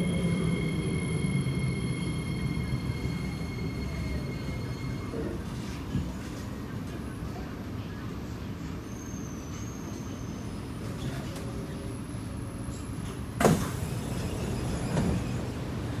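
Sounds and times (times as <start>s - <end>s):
train car hum: 0.0s - 16.0s.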